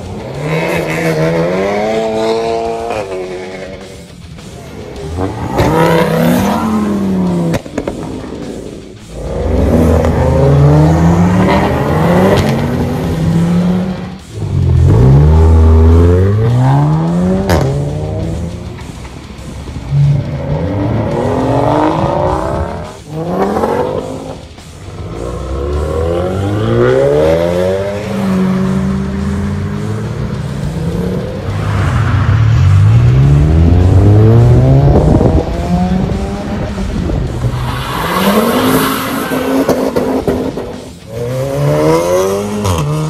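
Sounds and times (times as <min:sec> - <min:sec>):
car engines accelerating hard: 0:00.0 - 0:43.0.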